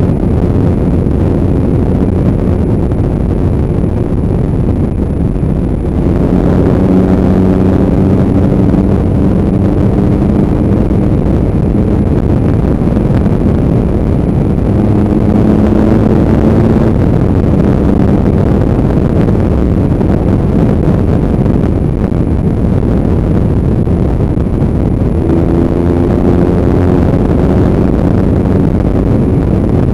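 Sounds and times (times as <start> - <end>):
motorcycle engine cruising: 0.0 - 29.9
wind buffeting microphone: 0.0 - 29.9.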